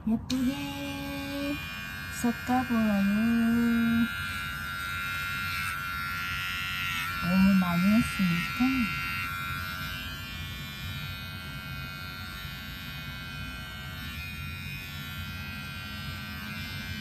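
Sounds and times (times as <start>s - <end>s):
electric clipper buzzing: 0.0s - 17.0s.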